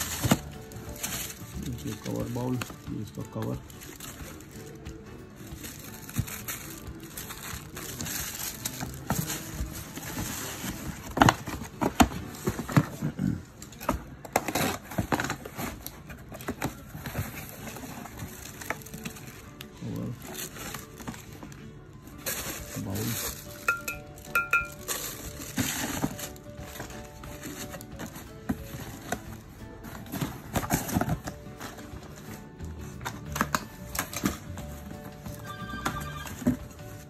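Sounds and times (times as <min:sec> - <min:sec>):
paper and cardboard rustling: 0:00.0 - 0:37.0.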